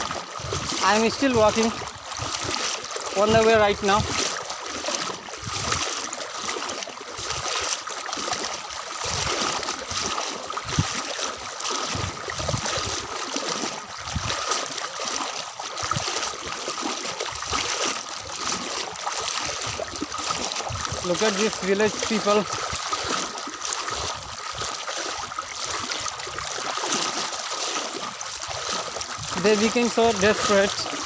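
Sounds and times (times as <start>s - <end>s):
floodwater splashing: 0.0s - 31.0s
footsteps wading through water: 0.0s - 31.0s.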